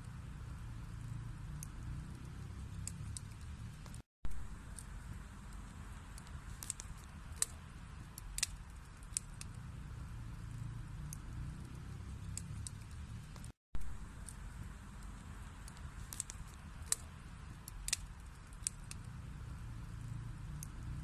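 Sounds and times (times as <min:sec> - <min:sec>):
fire flames rumbling: 0:00.0 - 0:21.0
logs crackling and popping: 0:00.0 - 0:21.0.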